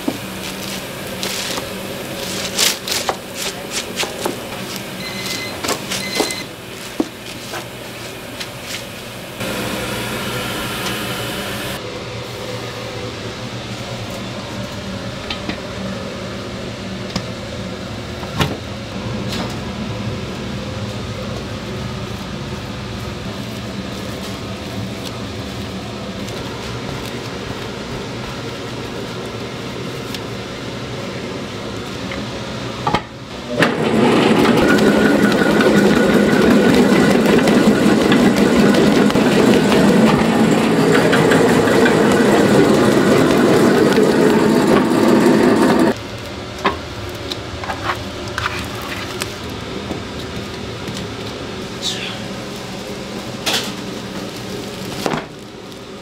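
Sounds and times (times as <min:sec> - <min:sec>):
kneading machine churning dough: 0:00.0 - 0:51.8
low machine hum: 0:00.0 - 0:56.0.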